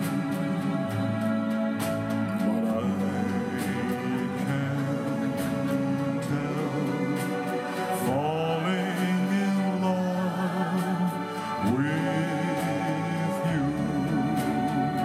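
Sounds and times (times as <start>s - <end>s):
instrumental backing music: 0.0s - 15.0s
man singing into microphone: 2.4s - 15.0s.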